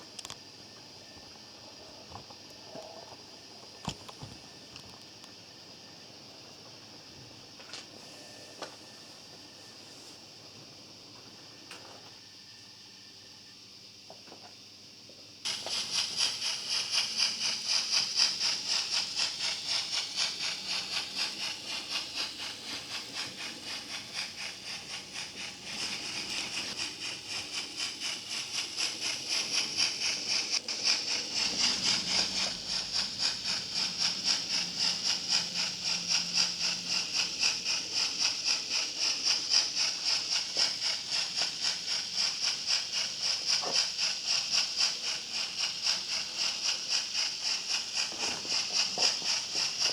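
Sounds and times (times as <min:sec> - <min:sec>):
model steam train hissing: 0:00.0 - 0:49.9.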